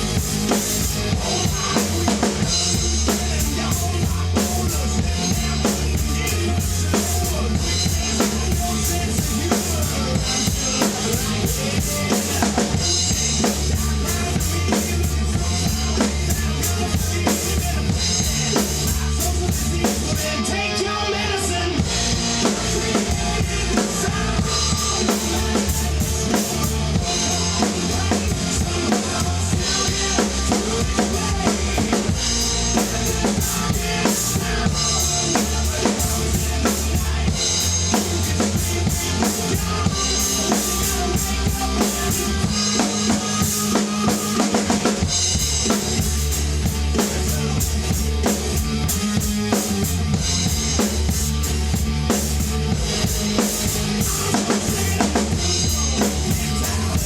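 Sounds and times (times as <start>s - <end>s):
distorted guitars and bass: 0.0s - 57.0s
rock drum kit played hard: 0.0s - 57.0s.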